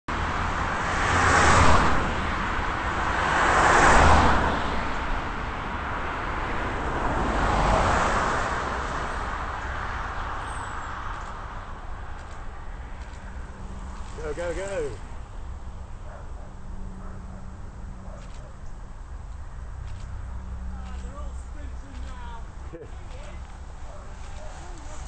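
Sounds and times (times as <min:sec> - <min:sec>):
cars passing on fast road: 0:00.1 - 0:25.0.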